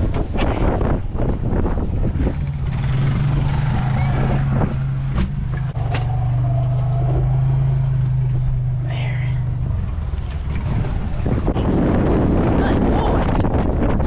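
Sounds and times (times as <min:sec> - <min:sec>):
storm wind buffeting vehicle: 0:00.0 - 0:14.0
vehicle engine humming: 0:00.0 - 0:14.0.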